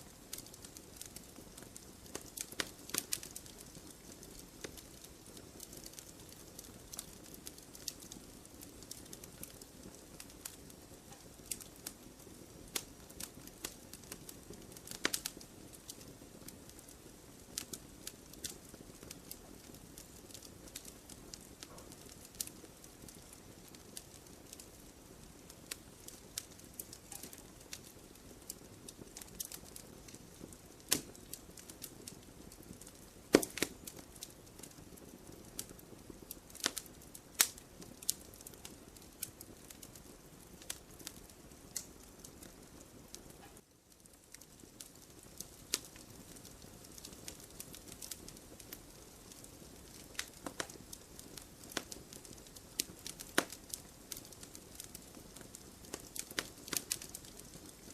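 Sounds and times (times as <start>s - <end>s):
fire hissing: 0.0s - 42.4s, 45.1s - 57.9s
fire crackling and popping: 0.0s - 57.9s.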